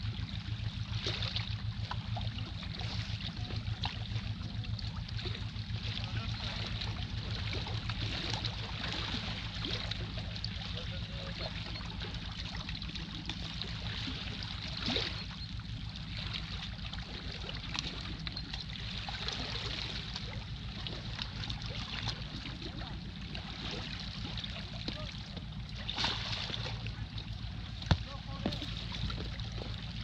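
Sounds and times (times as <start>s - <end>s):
steady low rumble: 0.0s - 30.0s
waves lapping among rocks: 5.0s - 30.0s.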